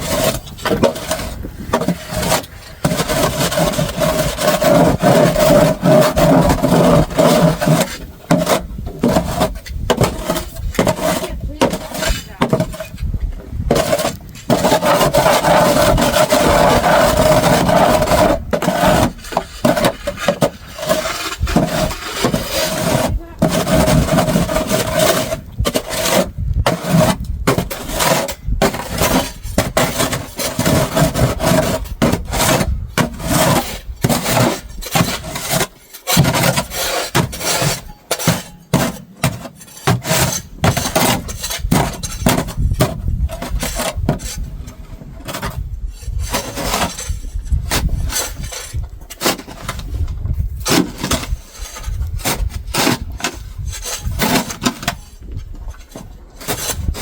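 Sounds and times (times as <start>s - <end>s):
crunching and scraping in snow: 0.0s - 57.0s.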